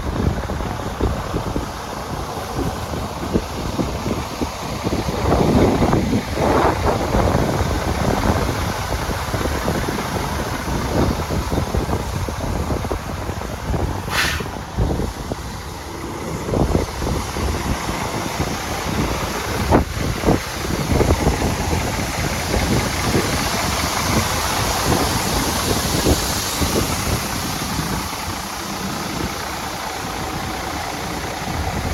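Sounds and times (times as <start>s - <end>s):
truck diesel engine idling: 0.0s - 31.9s
wind buffeting microphone: 0.0s - 31.9s.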